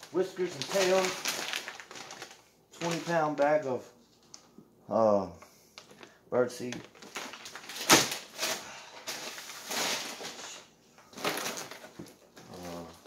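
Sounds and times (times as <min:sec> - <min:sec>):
plastic packaging crinkling: 0:00.0 - 0:03.7, 0:05.8 - 0:13.0.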